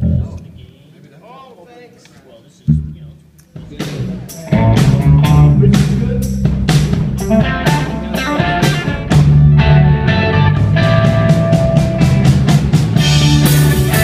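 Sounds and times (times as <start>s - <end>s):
rock band playing: 2.7s - 14.0s.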